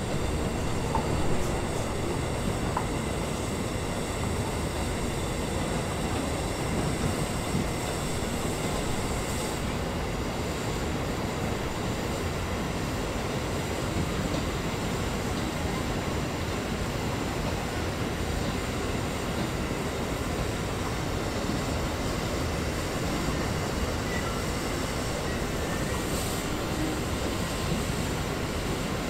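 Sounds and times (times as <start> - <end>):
steam hissing: 0.0 - 29.0.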